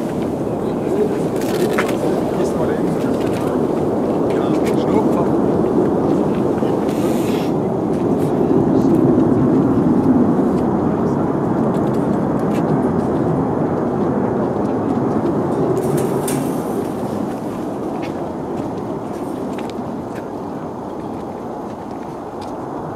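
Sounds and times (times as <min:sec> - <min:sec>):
jet engine roar: 0:00.0 - 0:22.9.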